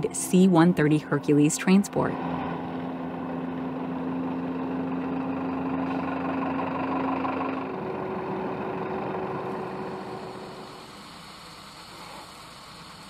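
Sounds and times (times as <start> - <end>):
higher steady tone: 0.0 - 10.8
tractor engine low hum: 0.0 - 13.0.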